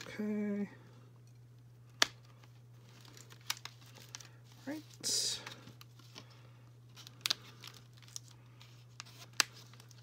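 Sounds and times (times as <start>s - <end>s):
steady low hum: 0.0s - 10.0s
plastic packaging crinkling: 1.9s - 10.0s.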